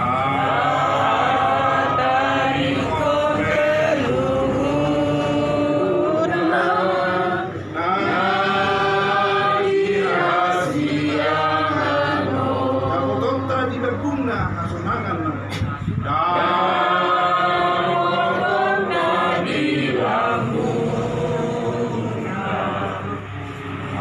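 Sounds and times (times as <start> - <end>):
group singing a hymn: 0.0 - 14.0, 16.0 - 24.0.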